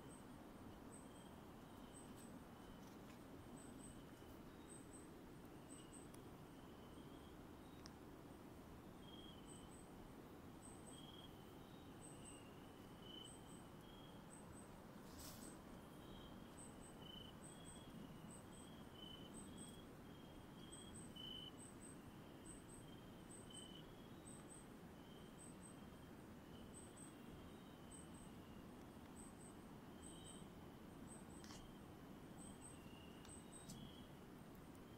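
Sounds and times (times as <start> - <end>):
rustle: 0.0 - 34.9.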